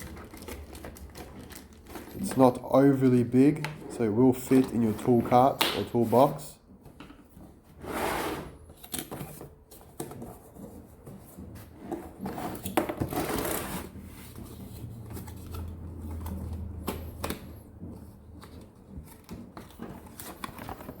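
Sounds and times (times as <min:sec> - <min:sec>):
plastic case rustling and scraping: 0:00.0 - 0:21.0.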